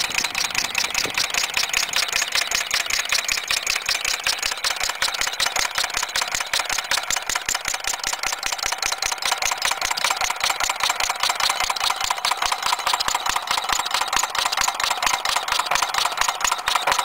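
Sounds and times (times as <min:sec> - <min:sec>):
small engine ticking and popping: 0:00.0 - 0:17.0.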